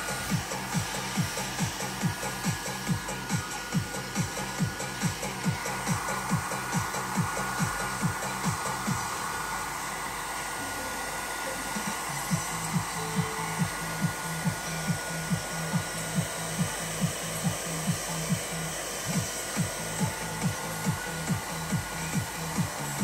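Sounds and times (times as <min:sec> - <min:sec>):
background music with steady beat: 0:00.0 - 0:23.0
hair dryer blowing: 0:00.0 - 0:23.0.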